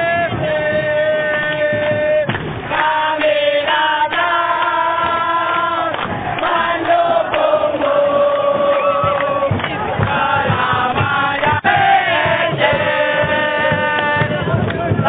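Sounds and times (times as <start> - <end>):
crowd chanting in unison: 0.0 - 15.0.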